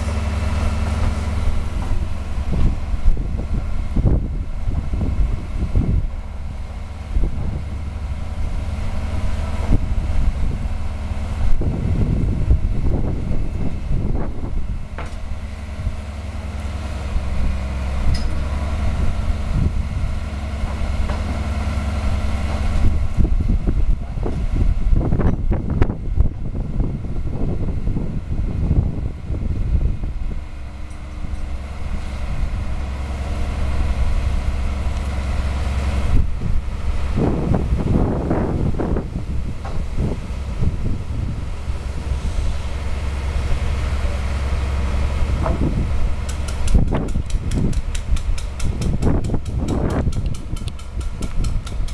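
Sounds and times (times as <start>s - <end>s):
crane engine running: 0.0s - 51.9s
wind buffeting microphone: 0.0s - 51.9s.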